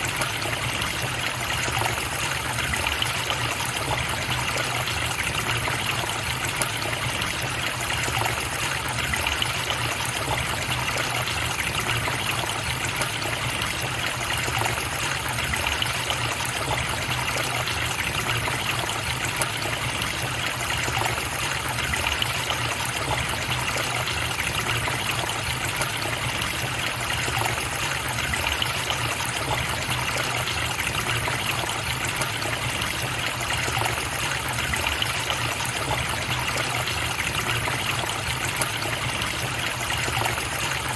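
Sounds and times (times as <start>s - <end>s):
stream flowing and trickling: 0.0s - 40.9s.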